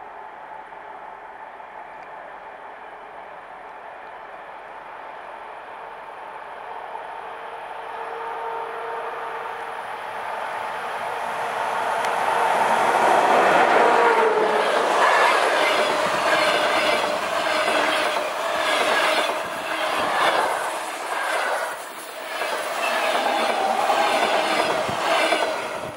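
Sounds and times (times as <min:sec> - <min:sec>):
train passing at speed: 0:00.0 - 0:25.9.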